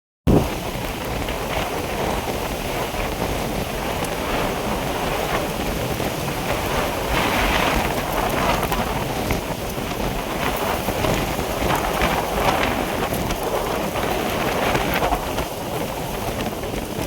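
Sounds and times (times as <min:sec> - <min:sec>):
rain: 0:00.3 - 0:17.0
storm wind: 0:00.3 - 0:17.0
wind buffeting microphone: 0:00.3 - 0:17.0.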